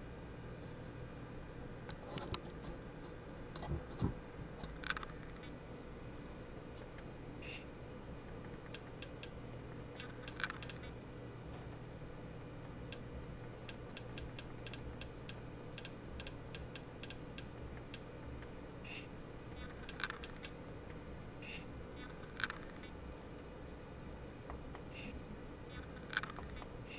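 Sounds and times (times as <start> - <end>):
faint electrical hum: 0.0 - 26.9.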